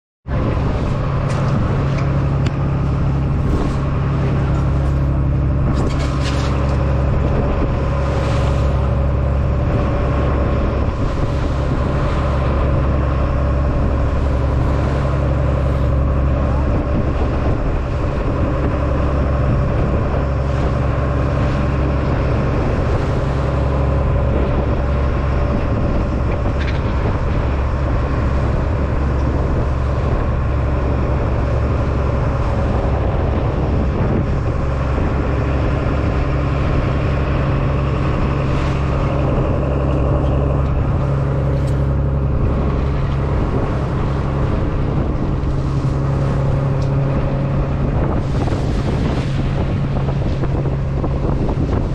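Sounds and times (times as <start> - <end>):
boat engine droning: 0.2 - 51.9.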